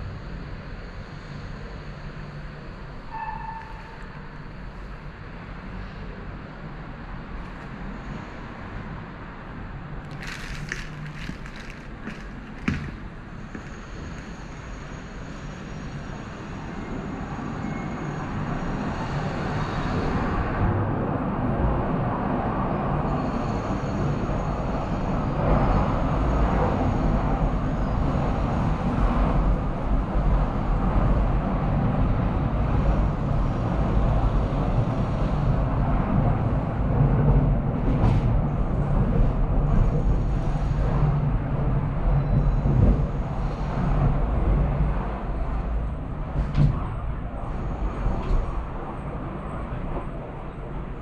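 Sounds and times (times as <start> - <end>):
funicular wheels rumbling: 0.0 - 51.0.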